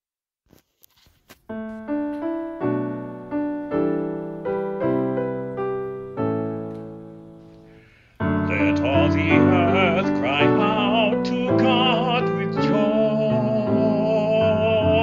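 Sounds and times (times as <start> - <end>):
piano chords: 1.5 - 15.0.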